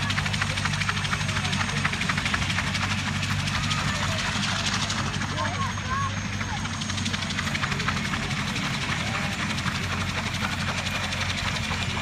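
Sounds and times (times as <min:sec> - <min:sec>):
faint voices: 0:00.0 - 0:12.0
helicopter rotor and engine drone: 0:00.0 - 0:12.0.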